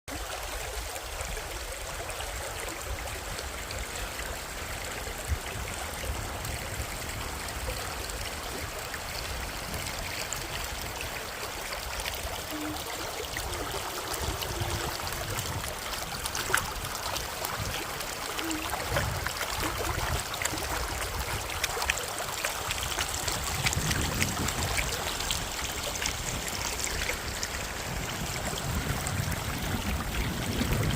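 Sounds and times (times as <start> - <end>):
stream flowing: 0.1 - 30.9.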